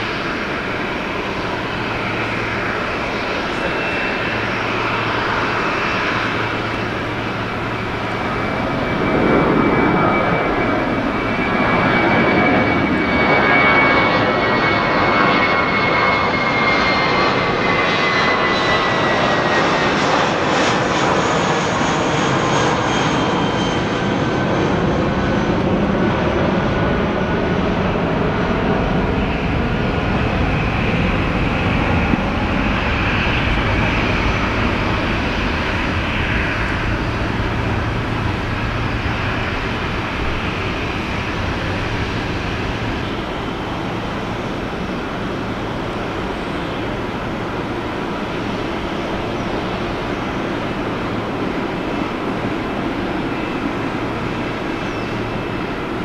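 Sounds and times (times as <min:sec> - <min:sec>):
jet engine whine: 0:00.0 - 0:56.0
jet engines rushing: 0:00.0 - 0:56.0.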